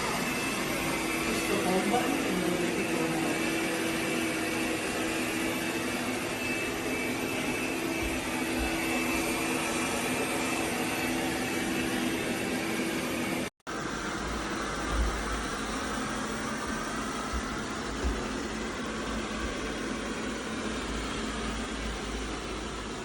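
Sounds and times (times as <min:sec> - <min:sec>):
robot vacuum whirring: 0:00.0 - 0:23.0.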